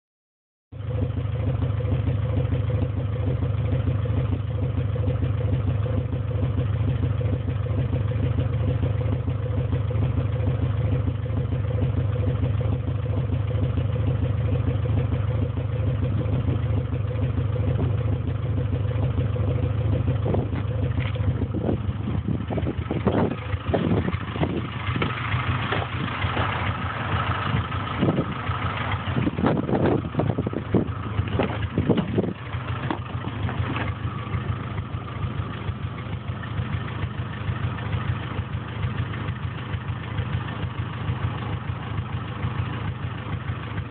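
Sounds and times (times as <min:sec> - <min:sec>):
car engine idling: 0:00.7 - 0:43.9
sharp exhaust pops: 0:01.0 - 0:43.9.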